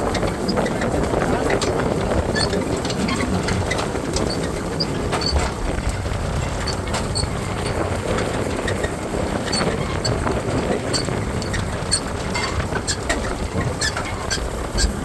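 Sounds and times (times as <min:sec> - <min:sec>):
machinery rattling and clicking: 0:00.0 - 0:15.0
tractor engine running: 0:00.0 - 0:15.0.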